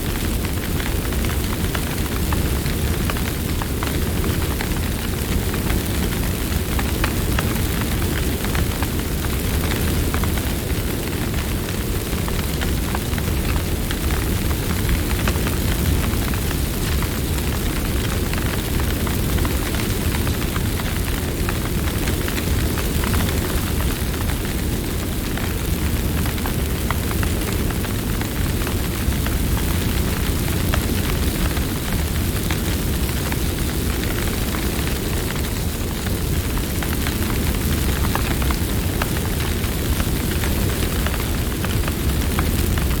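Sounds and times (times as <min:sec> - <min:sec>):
burning wood crackling and popping: 0:00.0 - 0:43.0
low rumble of flames: 0:00.0 - 0:43.0.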